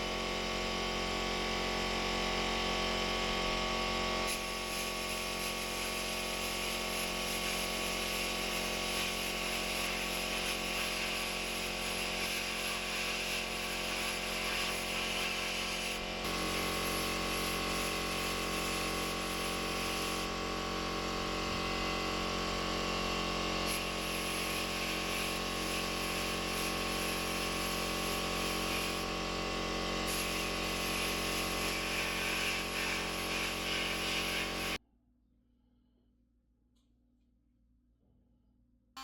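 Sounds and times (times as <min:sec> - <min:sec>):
power tool motor running: 0:00.0 - 0:34.8.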